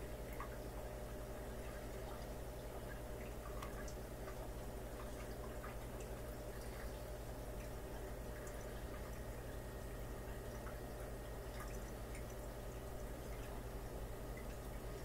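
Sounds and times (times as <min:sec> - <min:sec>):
aquarium equipment humming: 0:00.0 - 0:15.0
water trickling: 0:00.0 - 0:15.0
water dripping: 0:00.2 - 0:15.0.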